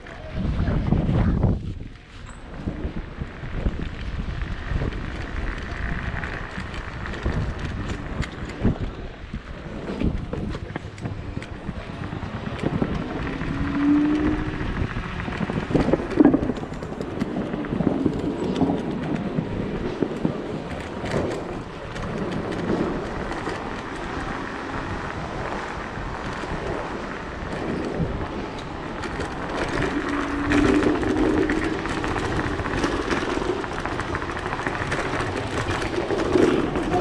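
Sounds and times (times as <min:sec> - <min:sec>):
electric unicycle ride noise: 0:00.0 - 0:37.0.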